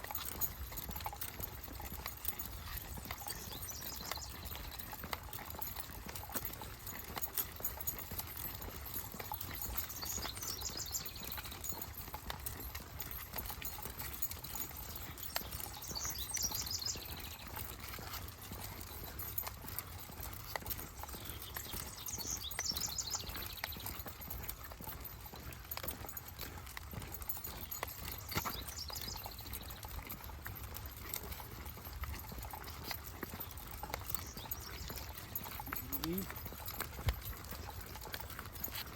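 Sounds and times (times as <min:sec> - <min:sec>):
footsteps on a trail: 0:00.0 - 0:38.9.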